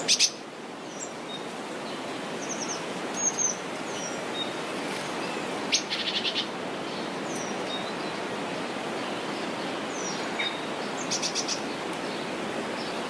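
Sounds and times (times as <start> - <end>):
river water rushing: 0.0 - 13.0
songbirds calling: 0.0 - 13.0.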